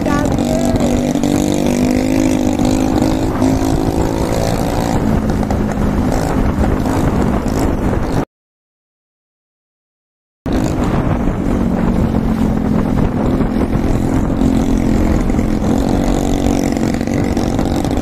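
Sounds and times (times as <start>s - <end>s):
motorbike engine cruising: 0.0s - 8.2s, 10.5s - 18.0s
wind and road noise: 0.0s - 8.3s, 10.5s - 18.0s.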